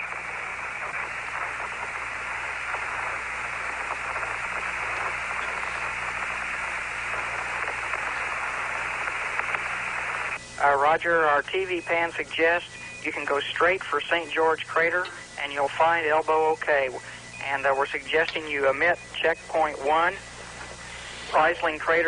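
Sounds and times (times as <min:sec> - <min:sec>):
faint low hum: 0:00.0 - 0:22.0
radio static hiss: 0:00.0 - 0:22.0.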